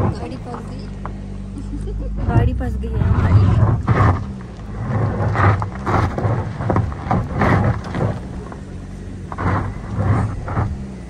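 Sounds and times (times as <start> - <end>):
car engine hum: 0.0 - 11.0
tyres on gravel: 0.0 - 11.0.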